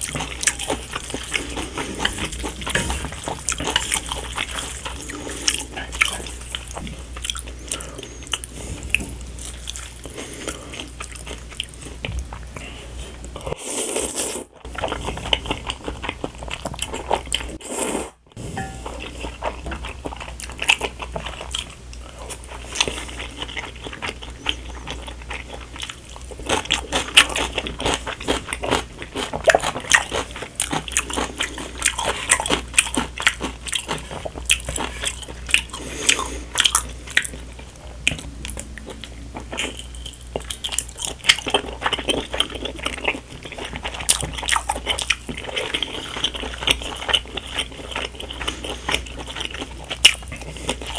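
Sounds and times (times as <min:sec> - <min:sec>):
low steady hum: 0:00.0 - 0:17.6, 0:18.2 - 0:50.9.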